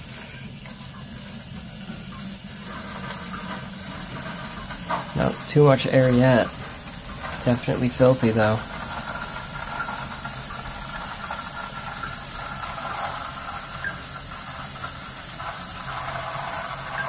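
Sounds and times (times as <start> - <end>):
water rushing from hose into bucket: 0.0 - 17.0.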